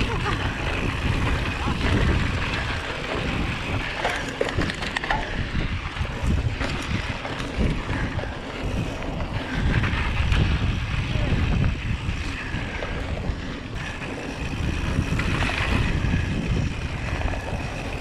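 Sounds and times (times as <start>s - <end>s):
bike clicks and rattles: 0.0s - 18.0s
bike tyres crunching on dirt: 0.0s - 18.0s
wind buffeting microphone: 0.0s - 18.0s.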